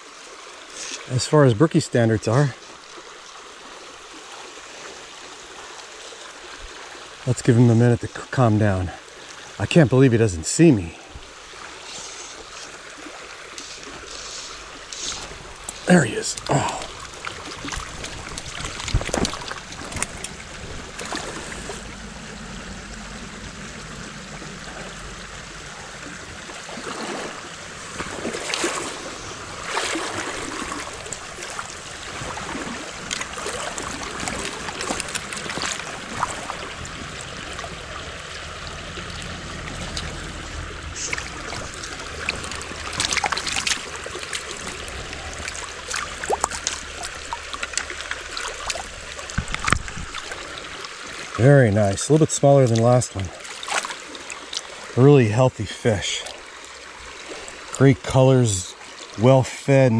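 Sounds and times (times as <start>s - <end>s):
creek water rushing: 0.0s - 59.9s
water splashing: 0.0s - 59.9s.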